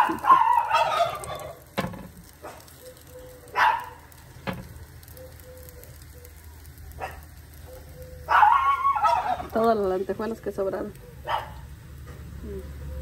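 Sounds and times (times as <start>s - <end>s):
oil sizzling under tortillas: 0.0s - 13.0s.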